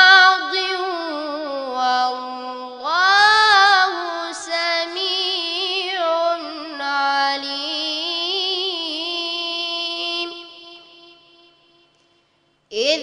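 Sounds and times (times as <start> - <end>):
boy reciting melodically: 0.0 - 11.6, 12.7 - 13.0.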